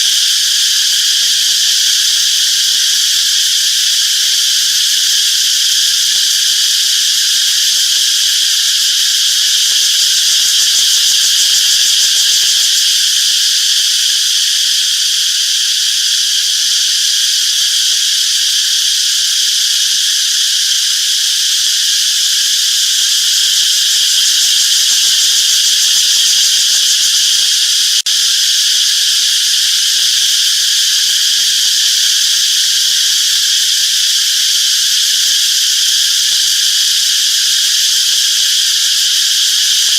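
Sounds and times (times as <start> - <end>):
insects buzzing chorus: 0.0 - 39.9.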